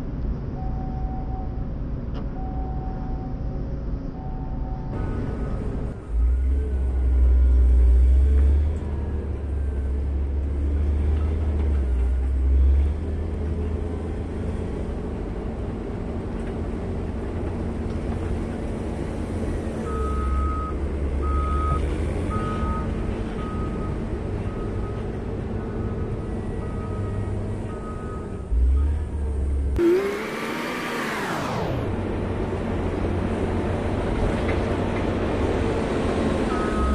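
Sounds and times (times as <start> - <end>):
diesel engine running under load: 0.1 - 30.6.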